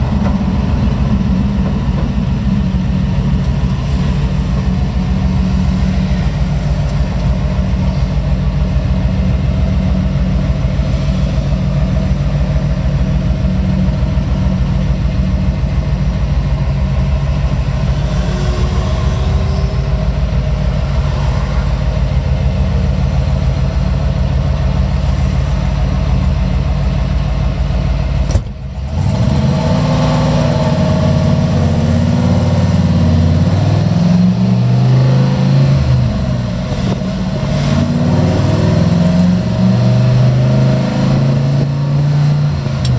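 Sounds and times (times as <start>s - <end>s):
pickup engine idling and accelerating: 0.0s - 42.9s.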